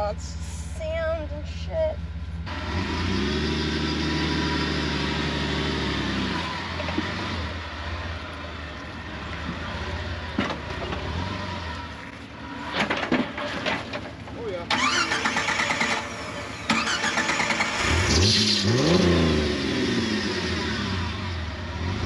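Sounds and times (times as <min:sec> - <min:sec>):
vehicle engine revving: 0:02.2 - 0:13.6, 0:14.7 - 0:22.0.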